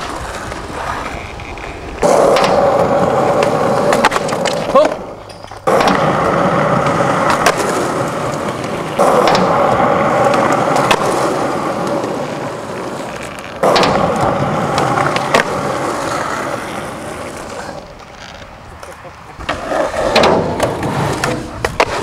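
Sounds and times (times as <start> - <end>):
skateboard clacks: 0.0 - 22.0
skateboard wheels rolling: 0.0 - 22.0.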